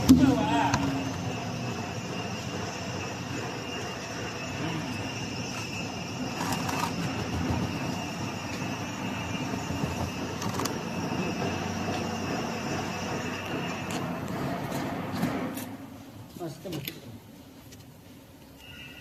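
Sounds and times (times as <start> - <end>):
grinder running with high whine: 0.0 - 15.7.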